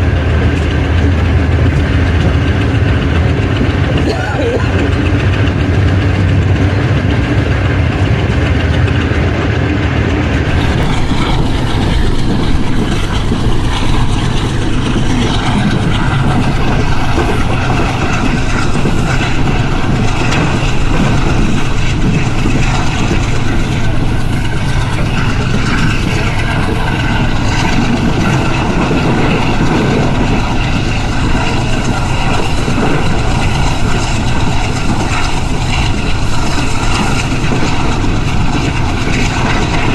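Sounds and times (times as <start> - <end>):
diesel locomotive and train: 0.0 - 39.9.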